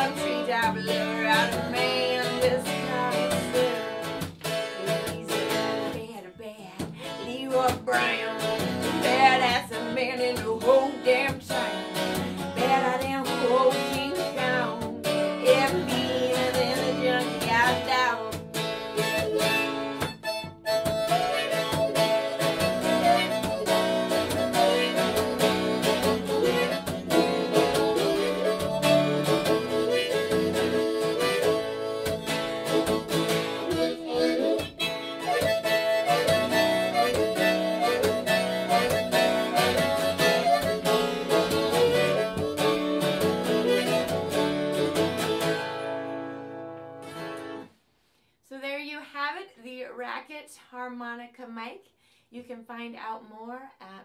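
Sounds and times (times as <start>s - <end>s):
amplified harmonica solo: 0.0s - 6.0s, 6.9s - 47.8s
strummed guitar: 0.0s - 47.8s.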